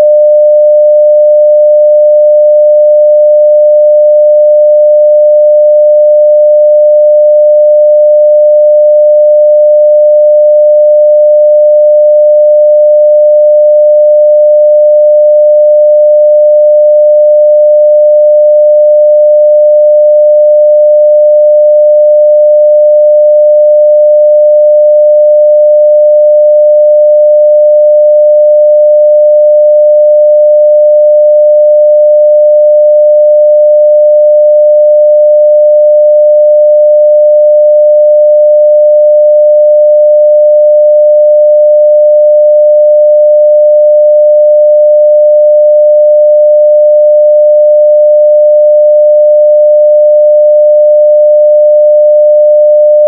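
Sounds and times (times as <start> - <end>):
sine-wave test tone: 0.0 - 53.0.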